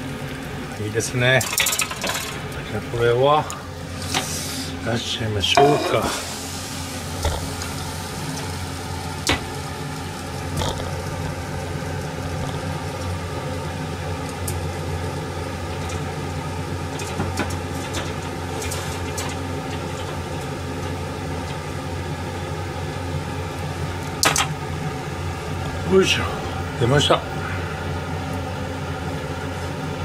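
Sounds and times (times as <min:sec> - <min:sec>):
kitchen equipment hum and hiss: 0:00.0 - 0:30.0.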